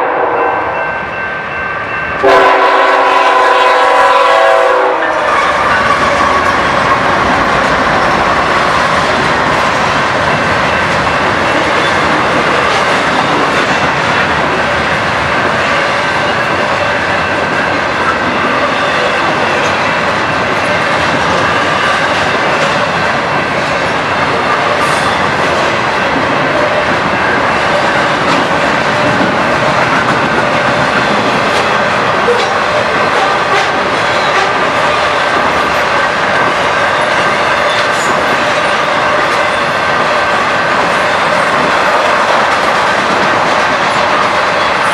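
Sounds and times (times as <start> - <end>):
train wheels clacking over rails: 2.2 - 44.9.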